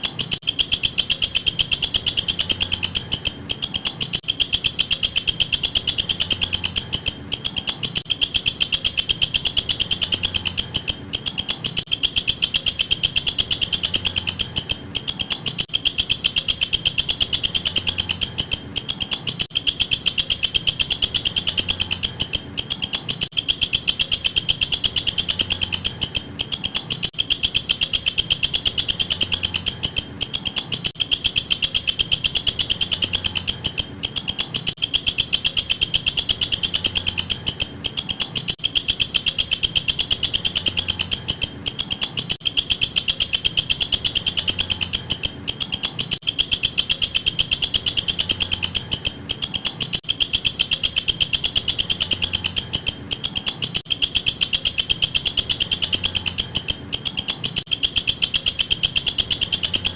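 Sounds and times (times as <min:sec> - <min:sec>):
katydid buzzy pulses: 0:00.0 - 0:59.9.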